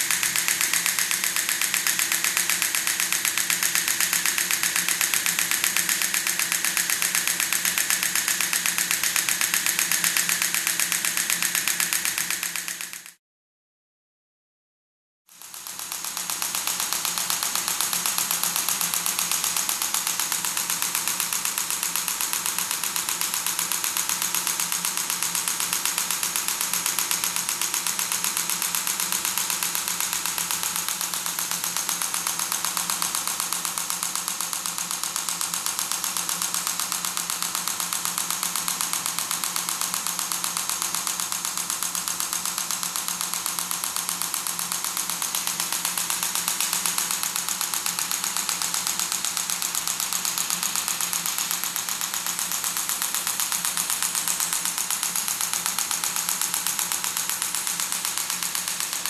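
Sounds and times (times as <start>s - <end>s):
rapid sharp clicks: 0.0s - 13.2s, 15.4s - 59.0s.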